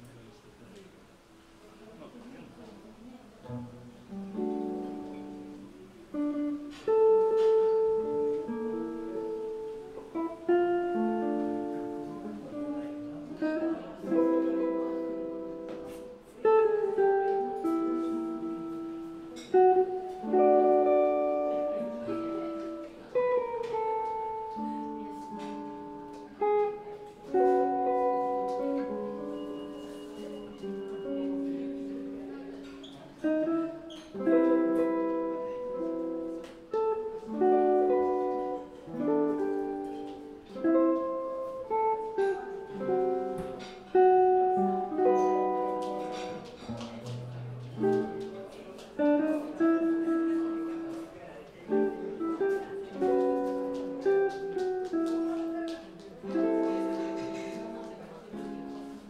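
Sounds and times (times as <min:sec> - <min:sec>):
jazz guitar chords: 0:03.4 - 0:59.0.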